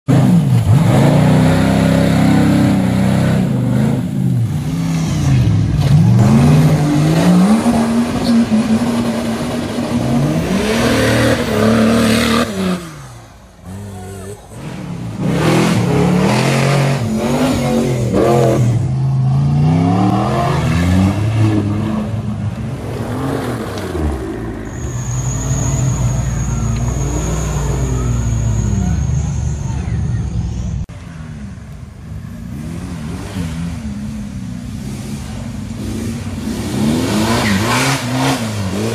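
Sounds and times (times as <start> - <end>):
off-road engines revving: 0.0 - 38.9
steady engine with high whine: 0.1 - 38.9.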